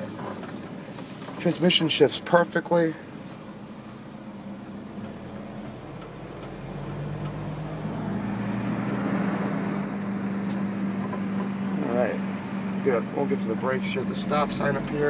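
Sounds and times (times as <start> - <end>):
pickup truck engine accelerating: 0.0 - 15.0.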